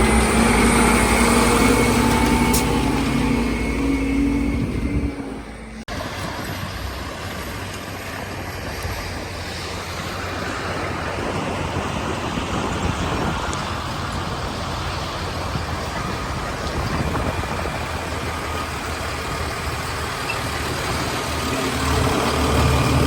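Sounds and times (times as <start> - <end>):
road noise: 0.0 - 23.0
truck engine rumble: 0.0 - 23.0.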